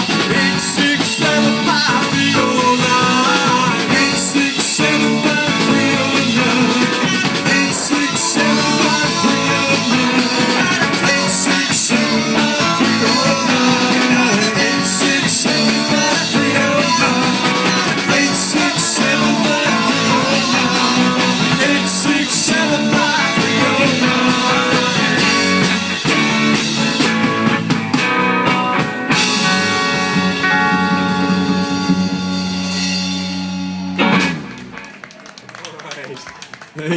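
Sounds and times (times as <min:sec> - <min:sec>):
rock band playing: 0:00.0 - 0:36.8.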